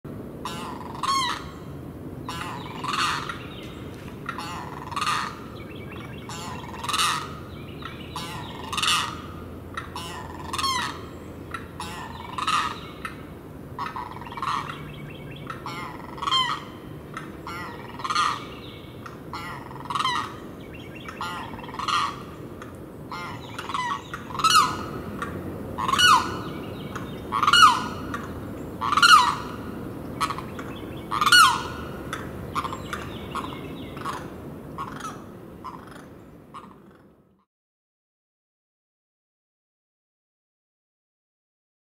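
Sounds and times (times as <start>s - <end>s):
bird crying calls: 0.4s - 37.5s.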